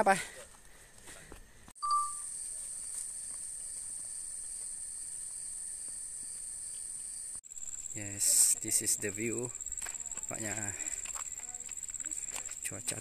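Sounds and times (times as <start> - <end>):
insects droning: 2.0 - 13.0.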